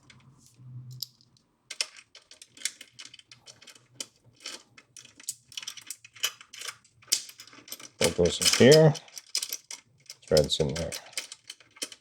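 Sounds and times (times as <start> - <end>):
small metal parts clicking: 0.9 - 12.0.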